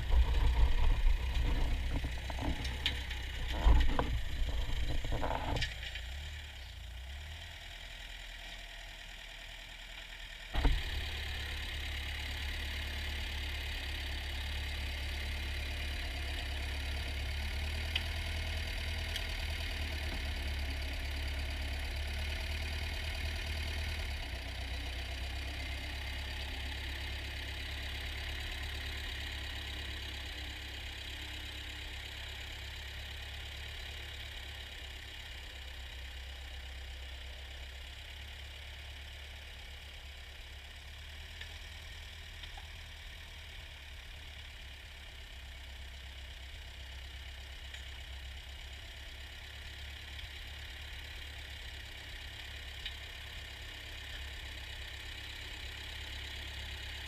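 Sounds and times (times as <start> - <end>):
tractor engine running: 0.0 - 7.4, 8.2 - 57.0.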